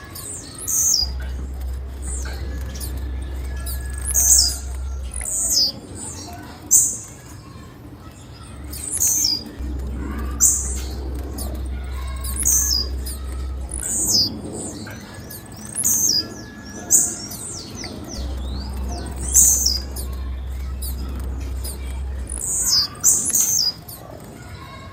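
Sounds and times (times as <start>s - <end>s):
high downward-sliding bird chirps: 0.0s - 7.3s, 8.1s - 24.2s
low steady hum: 0.0s - 24.9s.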